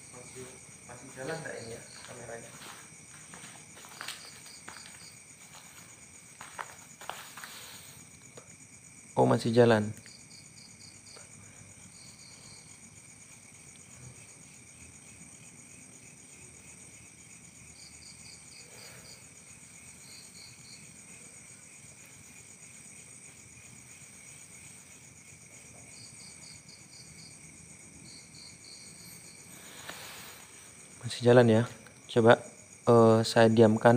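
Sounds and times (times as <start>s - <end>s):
cricket trill: 0.0s - 33.9s
insect chirping in quick pulses: 0.0s - 33.9s.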